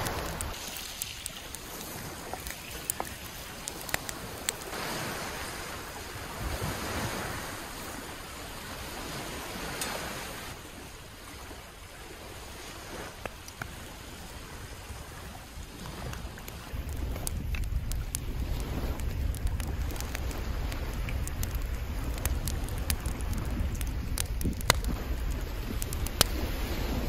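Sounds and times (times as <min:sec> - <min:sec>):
waves breaking on sandy shore: 0:00.0 - 0:27.0
wind: 0:00.0 - 0:27.0.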